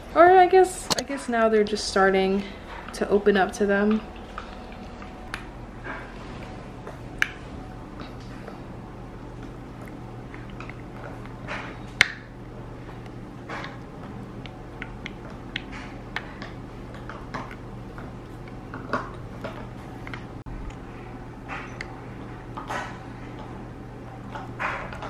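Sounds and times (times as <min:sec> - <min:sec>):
low hum: 0:00.0 - 0:25.0
puppies chewing toys: 0:00.9 - 0:25.0.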